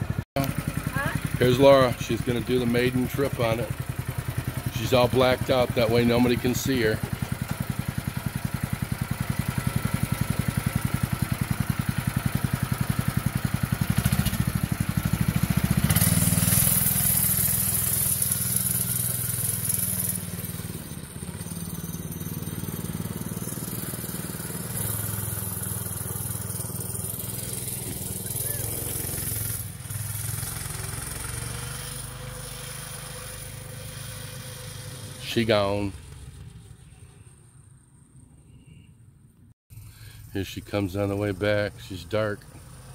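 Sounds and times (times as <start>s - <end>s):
mini bike engine idling and revving: 0.0s - 38.0s, 39.7s - 42.9s.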